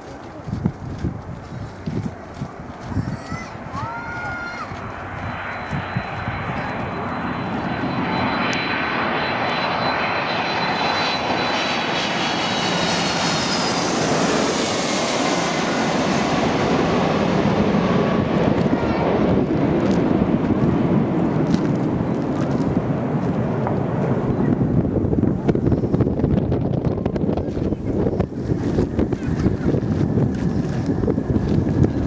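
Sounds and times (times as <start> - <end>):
jet airliner passing overhead: 0.0 - 32.0.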